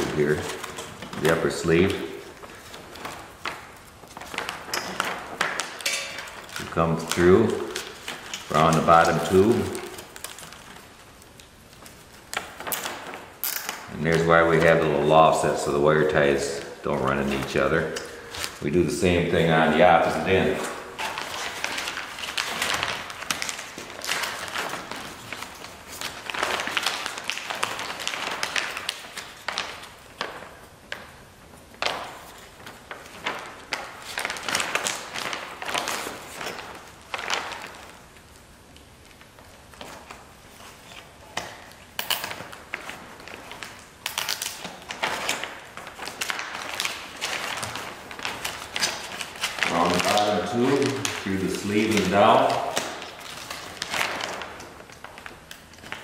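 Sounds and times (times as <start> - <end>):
stiff fabric rustling and crinkling: 0.0 - 56.0.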